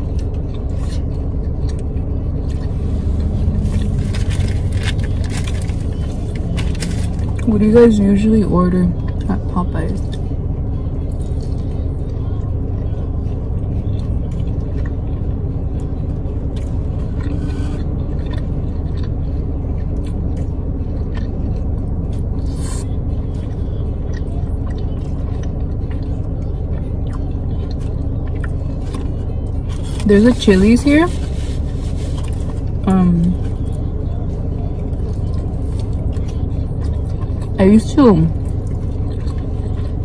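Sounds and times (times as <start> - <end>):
chewing: 0.0 - 8.3, 10.0 - 40.0
car cabin road and engine rumble: 0.0 - 40.0.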